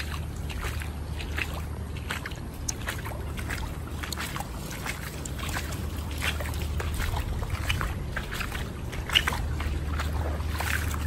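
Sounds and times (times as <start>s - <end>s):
footsteps splashing through water: 0.0s - 11.0s
low steady rumble: 0.0s - 11.0s.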